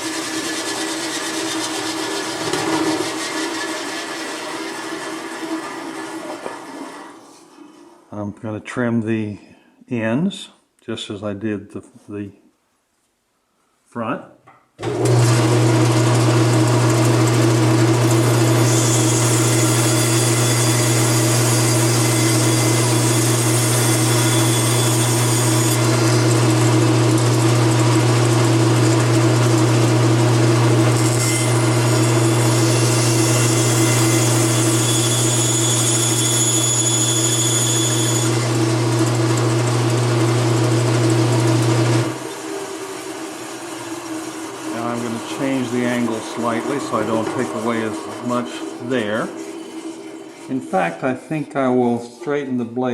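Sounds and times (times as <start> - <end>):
bandsaw humming: 0.0 - 7.0, 14.8 - 51.7
bandsaw cutting wood: 0.0 - 7.2, 14.8 - 51.1.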